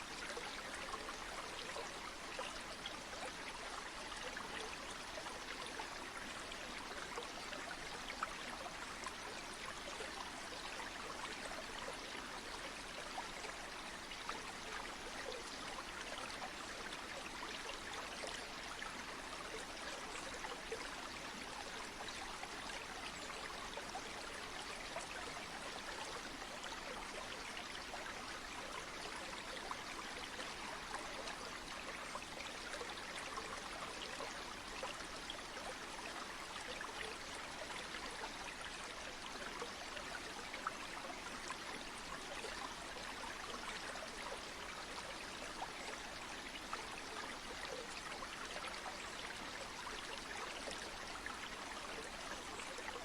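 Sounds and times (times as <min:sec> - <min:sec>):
stream water flowing: 0:00.0 - 0:53.0.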